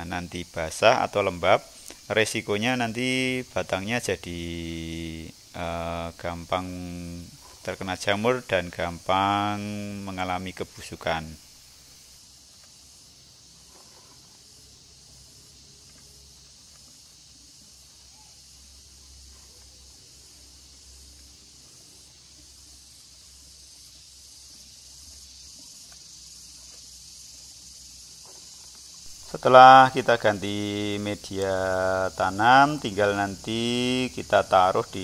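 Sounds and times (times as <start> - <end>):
insects hissing: 0.0 - 35.0.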